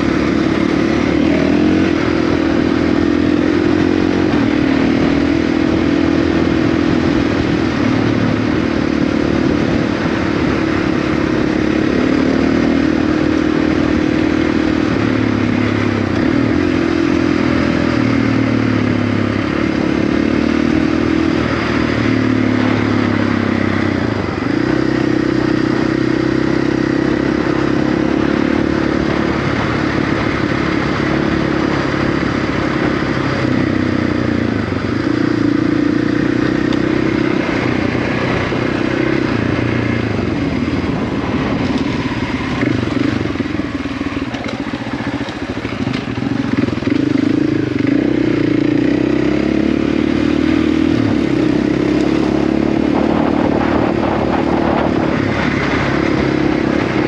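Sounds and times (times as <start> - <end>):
motorcycle engine revving: 0.0 - 57.0
steady rushing noise: 0.0 - 57.0.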